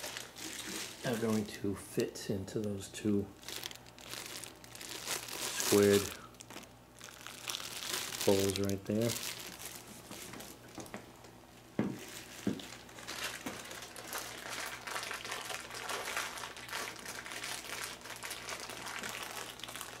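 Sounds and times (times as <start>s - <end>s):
packing material crinkling: 0.0s - 11.0s, 12.0s - 20.0s.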